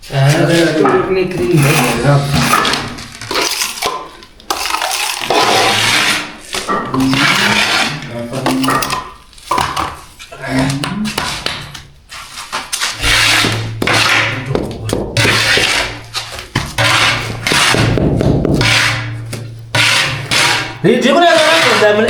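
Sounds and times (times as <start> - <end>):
scraping and rubbing: 0.0 - 22.0.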